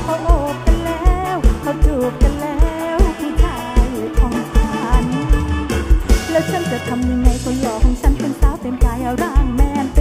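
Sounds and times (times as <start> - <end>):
live band playing: 0.0 - 10.0
woman singing: 0.0 - 10.0.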